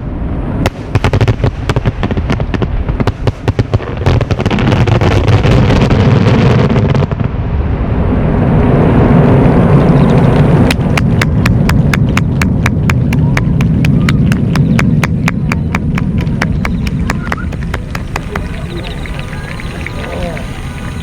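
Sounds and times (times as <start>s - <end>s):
fireworks bangs and crackles: 0.0s - 21.0s
rumble of fireworks bursting: 0.0s - 21.0s.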